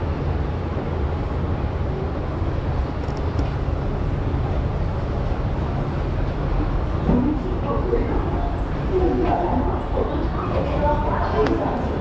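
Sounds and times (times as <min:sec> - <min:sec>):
subway station low rumble: 0:00.0 - 0:12.0.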